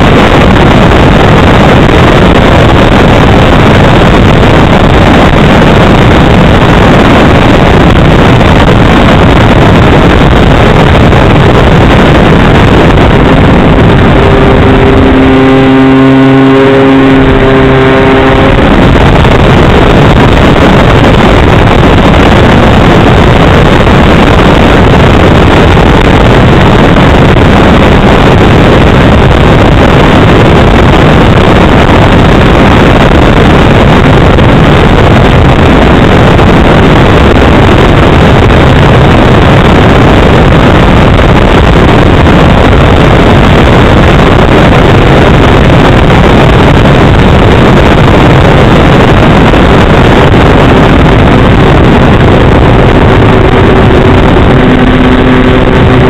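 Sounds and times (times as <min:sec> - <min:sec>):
humming motor: 0:00.0 - 0:33.6, 0:41.0 - 0:56.0
wind rushing on microphone: 0:00.0 - 0:56.0.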